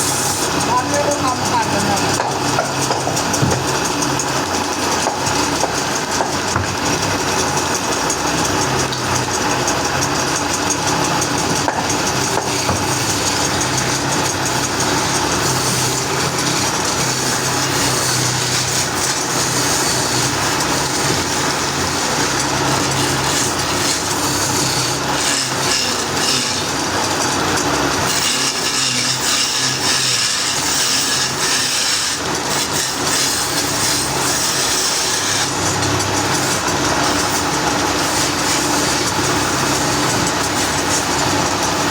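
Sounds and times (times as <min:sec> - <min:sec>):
saw blade cutting wood: 0:00.0 - 0:41.9.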